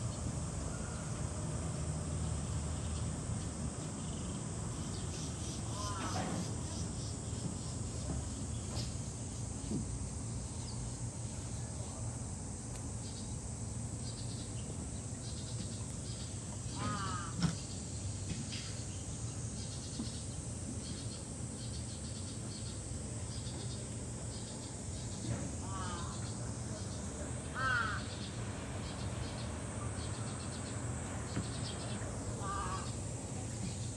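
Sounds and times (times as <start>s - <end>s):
insects chirping: 0.0s - 33.9s
low background hum: 0.0s - 33.9s.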